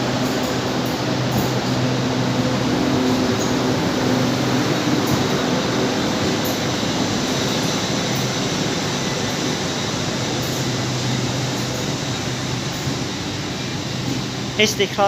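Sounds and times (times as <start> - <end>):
low tones from train equipment: 0.0 - 14.9
train hum at platform: 0.0 - 15.0.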